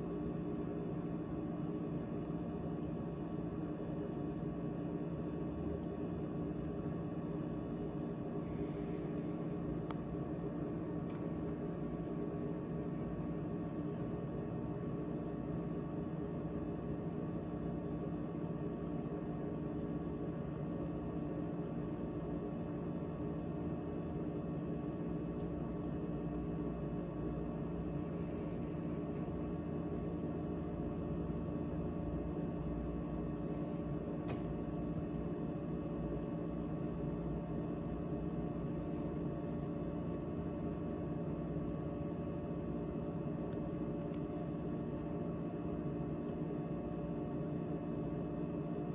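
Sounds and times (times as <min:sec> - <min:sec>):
refrigerator hum: 0:00.0 - 0:48.9.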